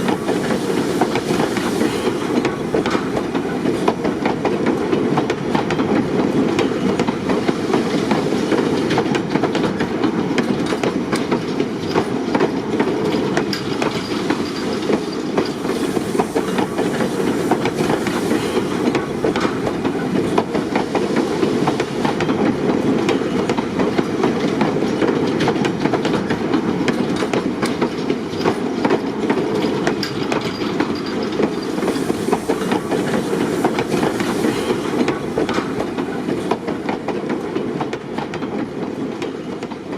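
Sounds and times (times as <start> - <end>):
rail vehicle rumbling: 0.0 - 39.9
wheels clattering on rails: 0.0 - 39.9.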